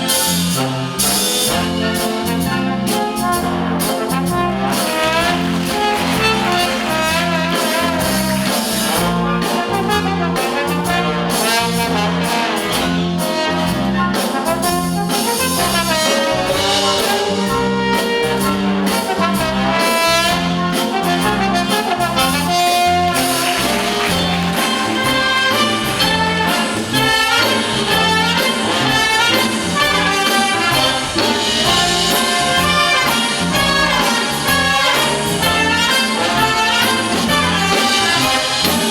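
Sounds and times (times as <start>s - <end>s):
wind orchestra playing jazz blues: 0.0s - 38.9s.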